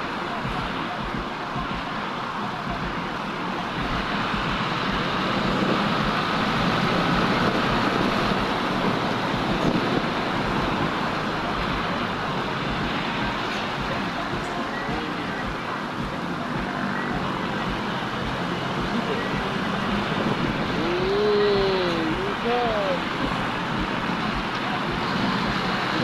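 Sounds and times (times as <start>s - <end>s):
road traffic rushing: 0.0s - 26.0s.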